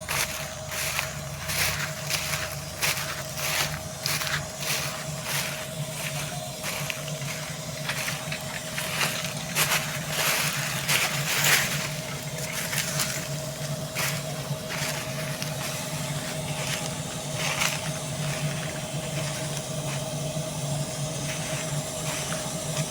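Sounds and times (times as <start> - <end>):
crunching and crackling: 0.0 - 20.3, 21.0 - 22.9
combine harvester drone: 0.0 - 22.9.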